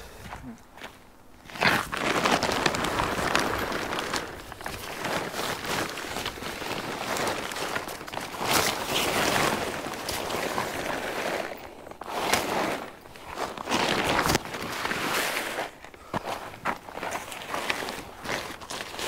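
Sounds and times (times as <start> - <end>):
sheet material rustling and crinkling: 1.4 - 19.0.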